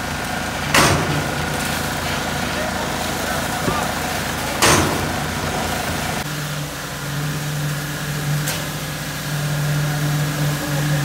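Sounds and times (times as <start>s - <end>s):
construction machinery engine running: 0.0s - 11.0s.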